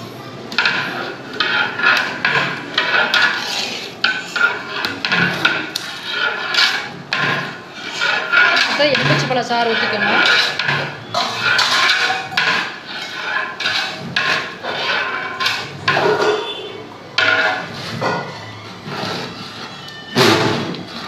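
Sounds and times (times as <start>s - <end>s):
ladle scraping metal pot: 0.0s - 21.0s.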